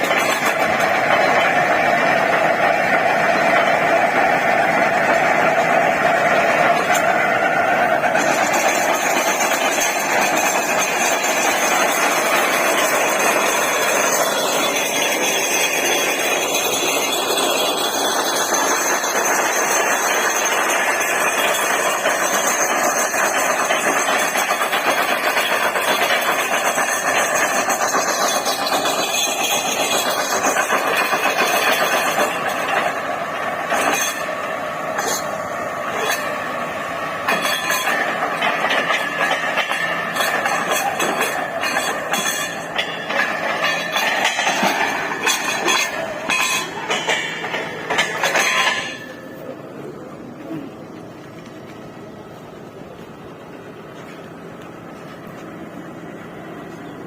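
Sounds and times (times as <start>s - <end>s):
drilling rig running: 0.0s - 57.0s.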